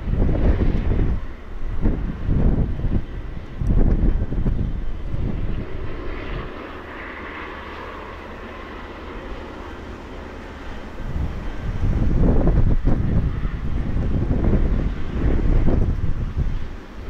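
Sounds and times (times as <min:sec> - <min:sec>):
aircraft engine rushing hiss: 0:00.0 - 0:17.0
wind on microphone: 0:00.0 - 0:17.0.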